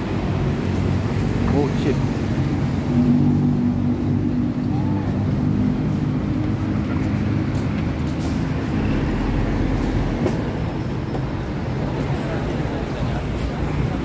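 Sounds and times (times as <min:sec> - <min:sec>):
heavy vehicle engine humming: 0:00.0 - 0:14.0
street traffic: 0:00.0 - 0:14.0.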